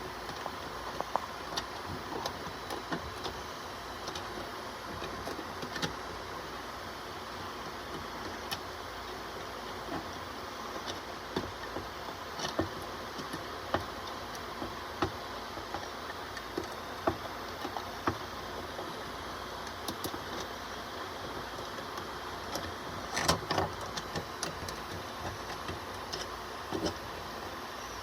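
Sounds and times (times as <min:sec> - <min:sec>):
three d printer fan hum: 0:00.0 - 0:28.0.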